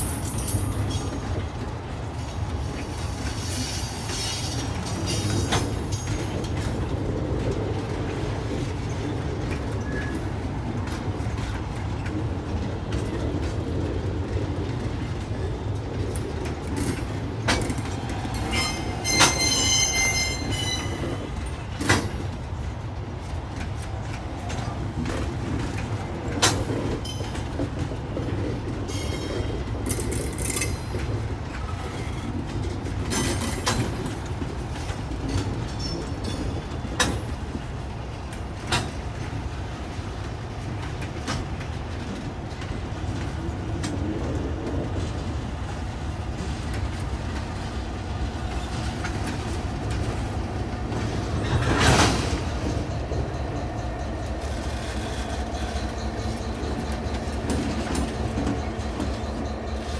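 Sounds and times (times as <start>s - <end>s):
diesel locomotive passing: 0.0s - 59.9s
freight train wheels rumbling: 0.0s - 59.9s
train clanks and wheel clicks: 0.0s - 59.9s.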